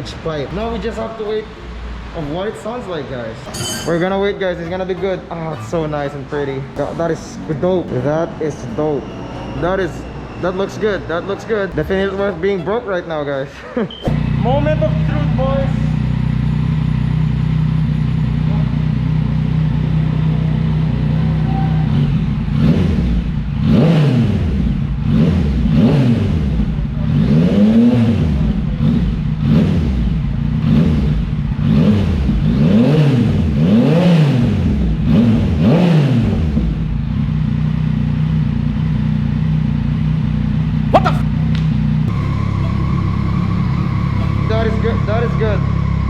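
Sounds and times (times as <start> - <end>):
motorcycle engine idling and revving: 0.0 - 9.0, 14.1 - 46.0.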